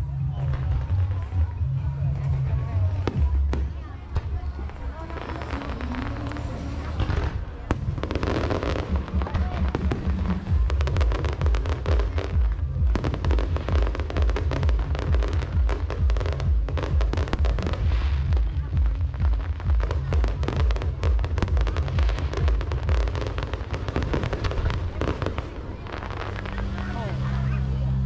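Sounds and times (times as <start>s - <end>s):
music playing: 0.0s - 28.0s
fireworks bangs and crackle: 0.1s - 27.7s.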